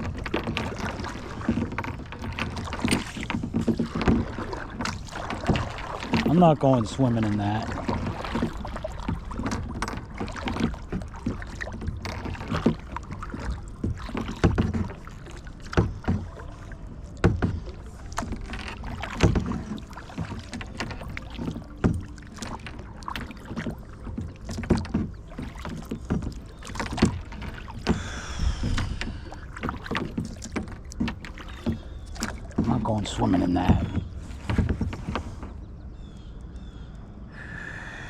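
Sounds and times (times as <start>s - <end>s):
paddle splashing in water: 0.0s - 36.4s
paddle knocking: 0.0s - 36.5s.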